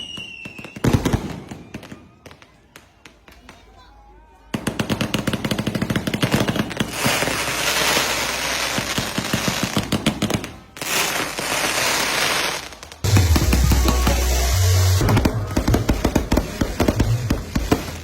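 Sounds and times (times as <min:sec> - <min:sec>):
firework bangs and crackling: 0:00.0 - 0:03.8, 0:04.5 - 0:18.0.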